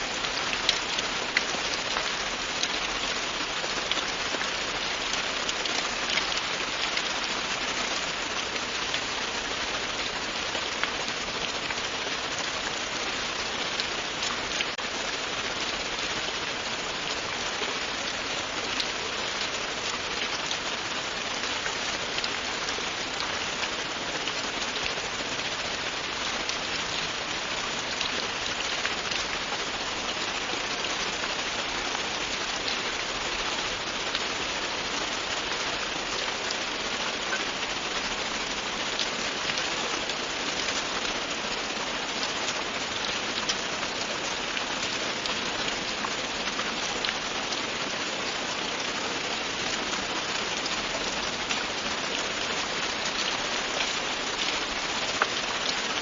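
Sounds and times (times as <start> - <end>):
faint raindrop ticks: 0.0 - 56.0
steady rain hiss: 0.0 - 56.0.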